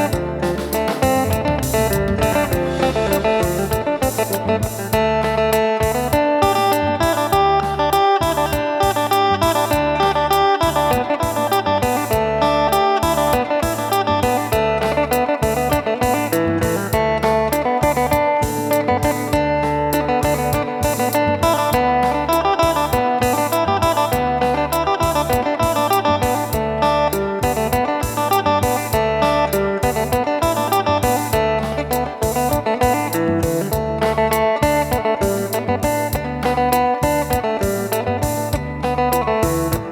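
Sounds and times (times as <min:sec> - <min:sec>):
plucked lute melody: 0:00.0 - 0:39.9
regular drum beat: 0:00.0 - 0:39.9
steady bass line: 0:00.0 - 0:39.9.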